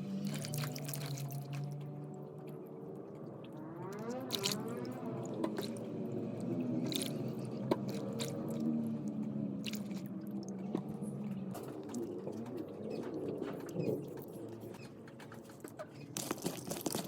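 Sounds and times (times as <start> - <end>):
wet food squishing and dripping: 0.0 - 14.2.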